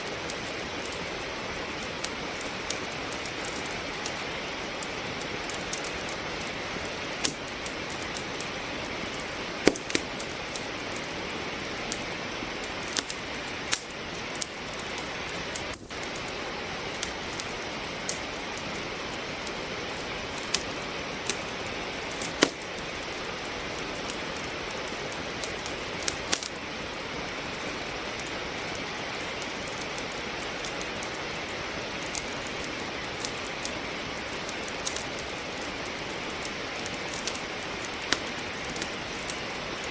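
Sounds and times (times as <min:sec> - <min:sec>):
sharp pops from burning logs: 0:00.0 - 0:39.9
steady rain hiss: 0:00.0 - 0:39.9
wood fire crackling: 0:00.0 - 0:39.9.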